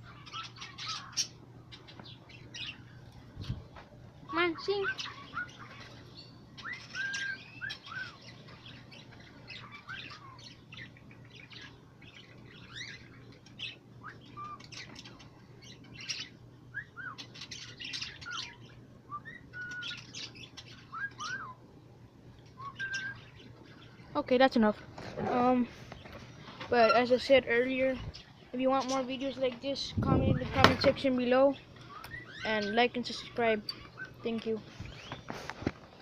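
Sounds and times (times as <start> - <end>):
parakeets chirping and warbling: 0.0 - 36.0.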